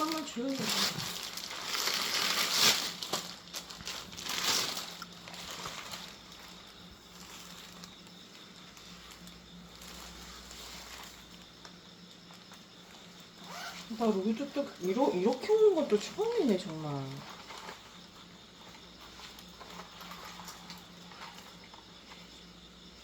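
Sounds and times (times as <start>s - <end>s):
plastic wrapping crinkling: 0.0s - 22.4s.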